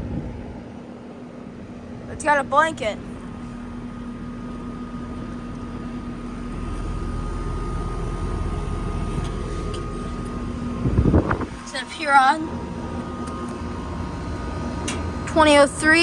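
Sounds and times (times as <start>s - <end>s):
air conditioner hum: 0.0s - 16.0s.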